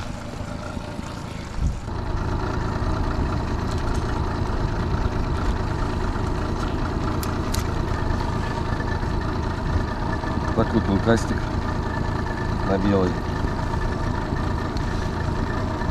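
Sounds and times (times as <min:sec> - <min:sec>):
outboard motor running: 0:00.0 - 0:15.9.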